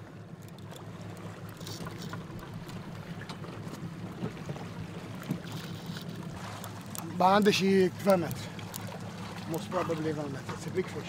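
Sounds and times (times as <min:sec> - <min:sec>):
outboard boat motor running: 0:00.0 - 0:11.0
water splashing along hull: 0:00.0 - 0:11.0.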